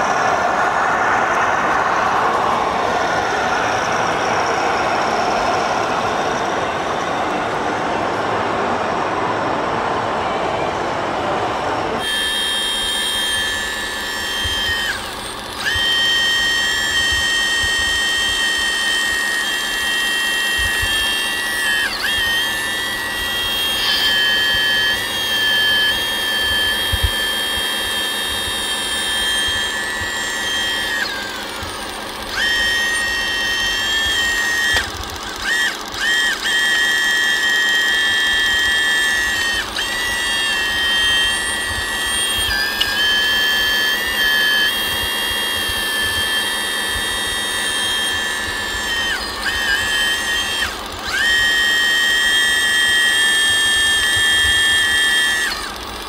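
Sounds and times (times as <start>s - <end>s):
small electric motor whine: 0.0s - 56.0s.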